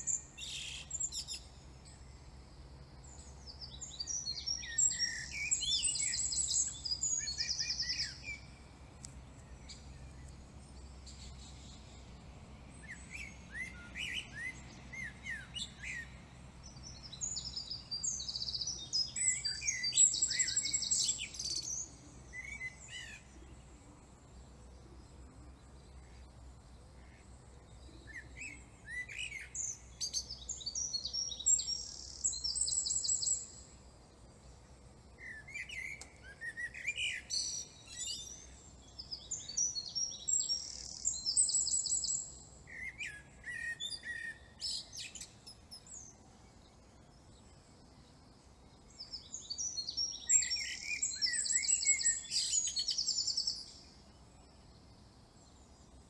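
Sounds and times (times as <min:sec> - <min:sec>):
songbird chirps and trills: 0:00.0 - 0:56.0.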